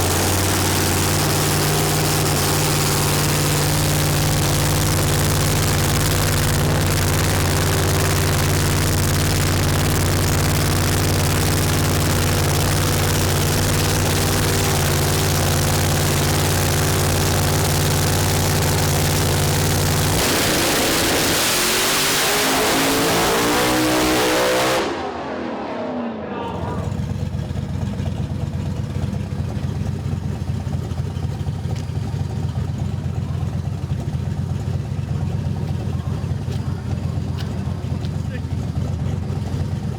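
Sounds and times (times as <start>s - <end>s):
engine idling: 0.0s - 25.3s, 26.4s - 39.9s.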